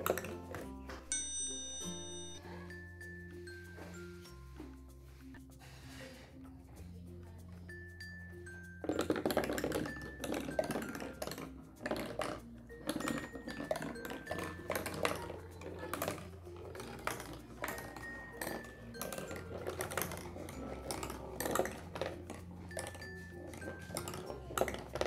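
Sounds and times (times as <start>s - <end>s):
glass marble rolling and clicking: 0.0s - 5.1s, 7.3s - 25.0s
background music: 0.0s - 25.0s.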